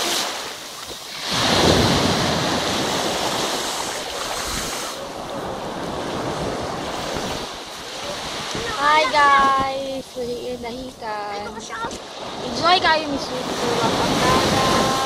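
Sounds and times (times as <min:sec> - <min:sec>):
small waves washing on sand: 0:00.0 - 0:15.0
wind buffeting microphone: 0:01.2 - 0:15.0.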